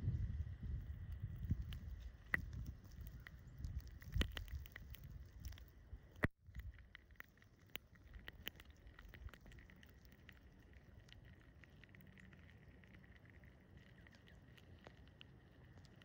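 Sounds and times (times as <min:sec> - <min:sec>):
faint light clicks and ticks: 0:01.1 - 0:16.0.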